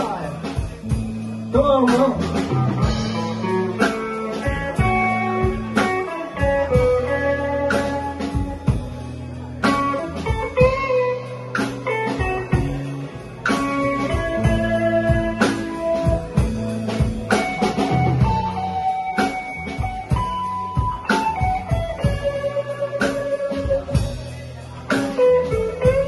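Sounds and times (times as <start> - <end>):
live band playing slow blues: 0.0 - 26.0
electric guitar bending notes: 2.2 - 26.0.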